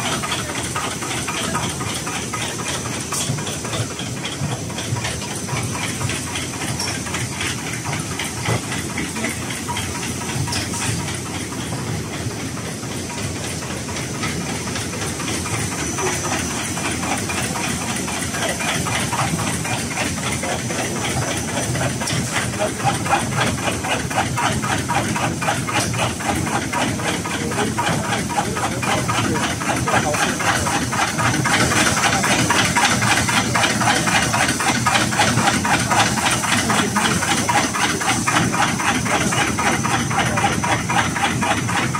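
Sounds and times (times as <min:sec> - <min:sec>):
production line hum and hiss: 0:00.0 - 0:41.9.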